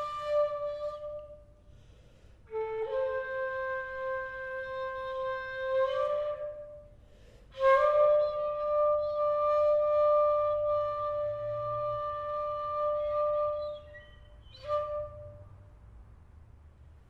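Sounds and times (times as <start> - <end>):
bamboo flute held notes: 0.0 - 1.9, 2.5 - 15.6.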